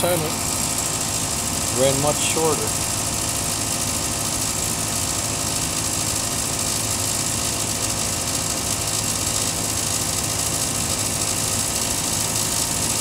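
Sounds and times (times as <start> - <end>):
furnace fan humming: 0.0 - 13.0.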